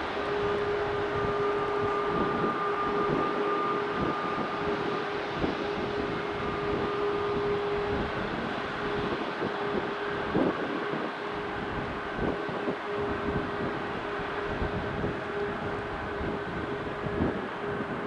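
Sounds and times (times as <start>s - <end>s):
jet engine rushing: 0.0s - 17.4s
jet engine two-tone whine: 0.0s - 18.0s.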